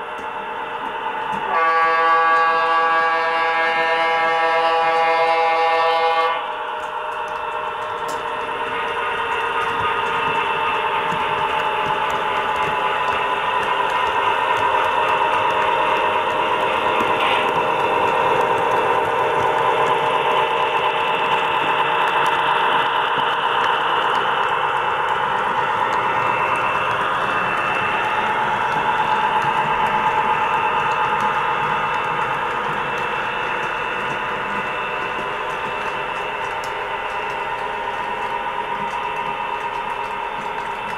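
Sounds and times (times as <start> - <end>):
model locomotive diesel engine sound: 0.0 - 40.9.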